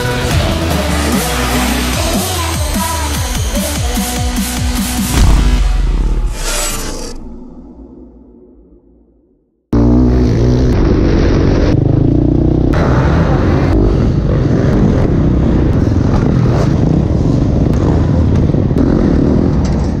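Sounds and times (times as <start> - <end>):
dirt bike engine revving: 0.0 - 7.2, 9.7 - 20.0.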